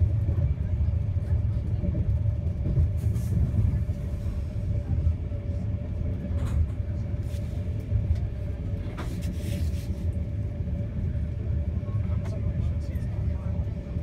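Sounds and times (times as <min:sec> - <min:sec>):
train coach rumbling on track: 0:00.0 - 0:14.0.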